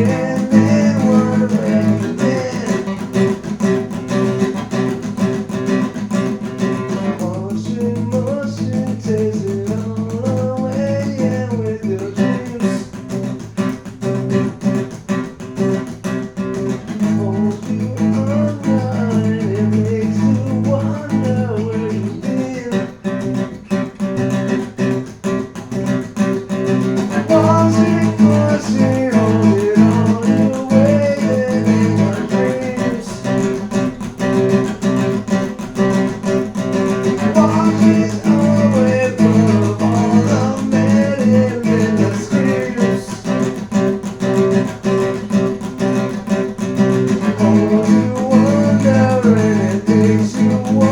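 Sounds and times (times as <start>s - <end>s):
strummed acoustic guitar: 0.0s - 50.9s.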